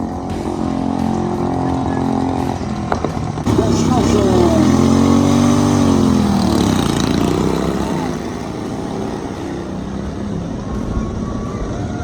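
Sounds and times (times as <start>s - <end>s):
crowd voices: 0.0s - 12.0s
lawnmower engines racing: 0.0s - 12.0s.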